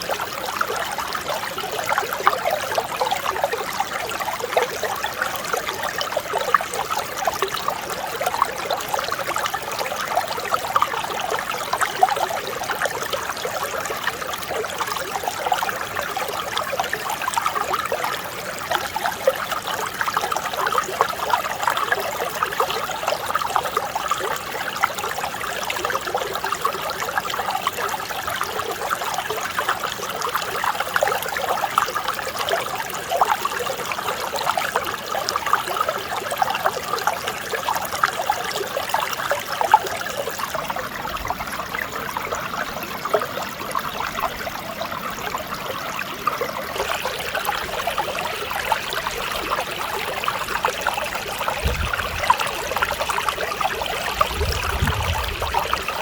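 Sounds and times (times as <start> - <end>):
small water splashes: 0.0 - 56.0
stream flowing over rocks: 0.0 - 56.0.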